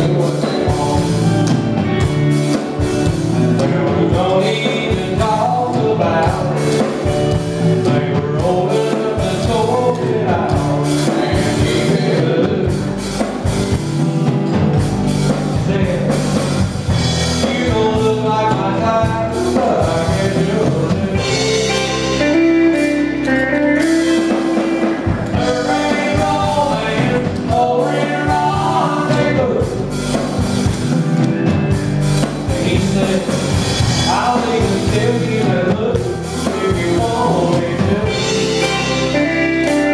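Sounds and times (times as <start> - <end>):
man singing into a microphone: 0.0 - 2.2, 3.0 - 13.1, 15.5 - 16.4, 17.2 - 24.4, 25.0 - 30.0, 32.4 - 39.9
drum kit: 0.0 - 39.9
electric bass guitar: 0.0 - 39.9.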